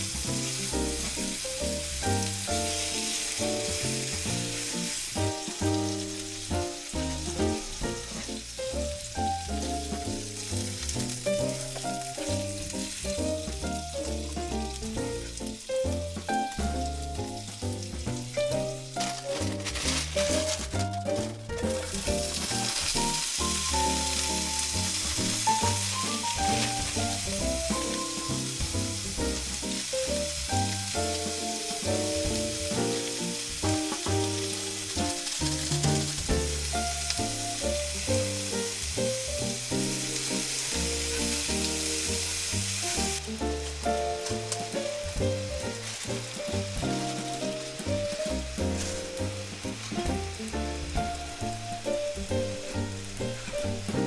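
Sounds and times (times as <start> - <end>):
steady hiss: 0.0 - 20.5, 21.7 - 54.0
background music with bass line: 0.0 - 54.0.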